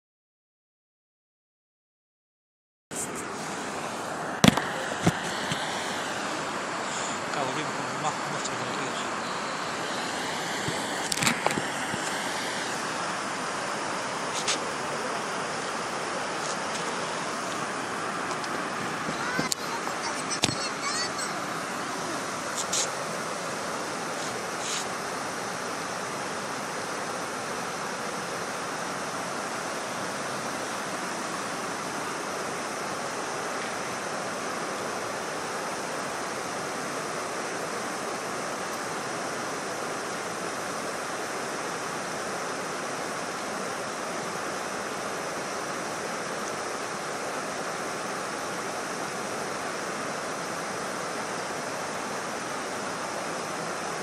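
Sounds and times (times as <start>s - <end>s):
water rushing: 2.9s - 54.0s.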